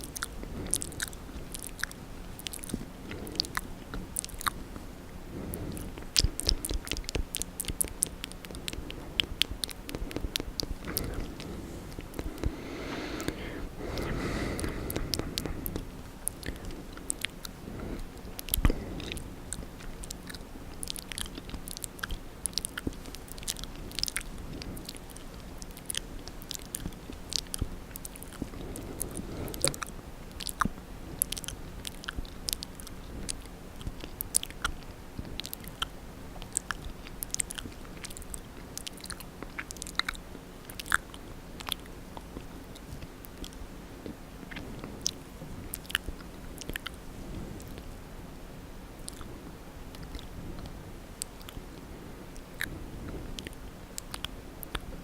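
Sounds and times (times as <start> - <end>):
tongue clicks: 0.0 - 4.6, 5.4 - 47.0, 49.0 - 49.3, 49.9 - 51.8, 52.4 - 52.8, 53.4 - 54.9
lip smacks: 0.0 - 47.9, 49.0 - 54.9.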